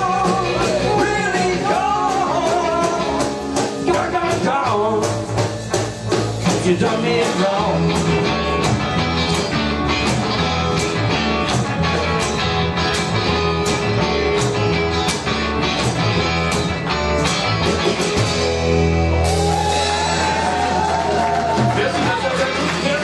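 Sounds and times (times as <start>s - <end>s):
bass line: 0.0s - 23.0s
guitar: 0.0s - 23.0s
steady drum beat: 0.0s - 23.0s.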